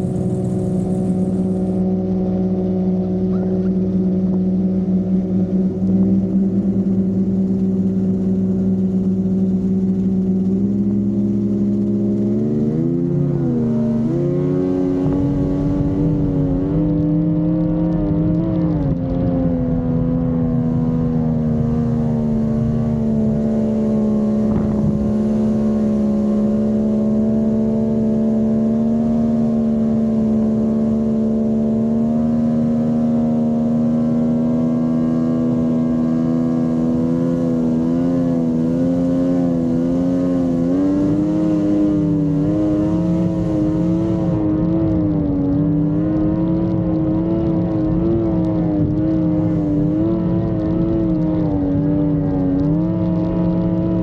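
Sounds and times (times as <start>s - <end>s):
outboard motor running hard: 0.0s - 54.0s.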